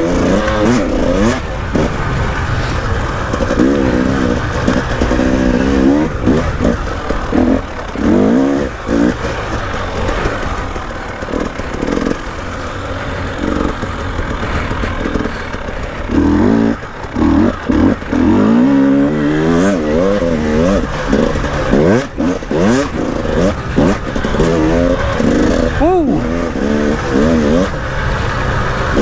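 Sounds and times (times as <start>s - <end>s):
two-stroke motorbike revving: 0.0s - 29.0s.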